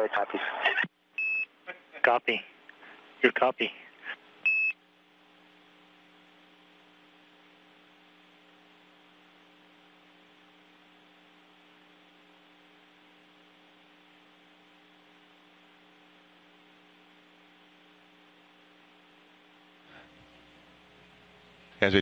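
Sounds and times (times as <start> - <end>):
faint electrical hum with hiss: 0.0 - 22.0.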